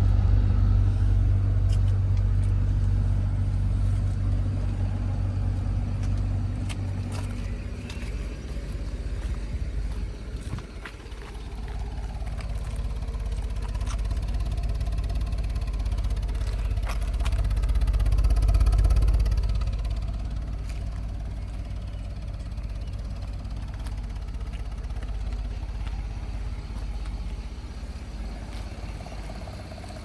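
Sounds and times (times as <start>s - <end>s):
engine running with a misfire: 0.0s - 30.0s.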